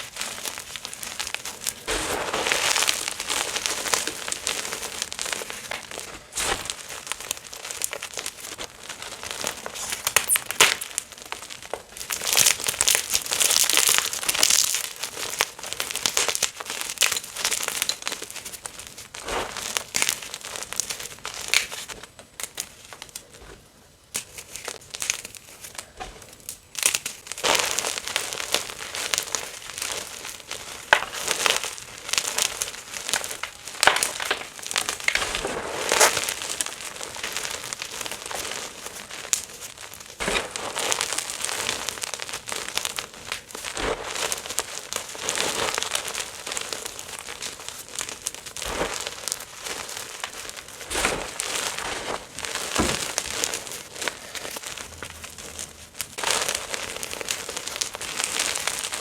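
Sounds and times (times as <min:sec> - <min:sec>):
chalk being crushed: 0:00.0 - 0:23.5, 0:24.1 - 0:59.0.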